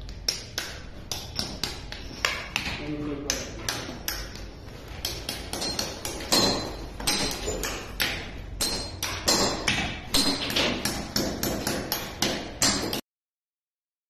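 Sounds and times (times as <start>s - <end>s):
hammer tapping concrete floor: 0.0s - 13.0s.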